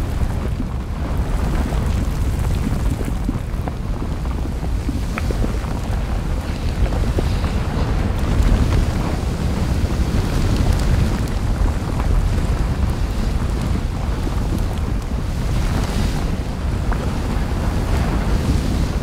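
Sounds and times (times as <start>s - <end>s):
faint crackles: 0.0s - 19.0s.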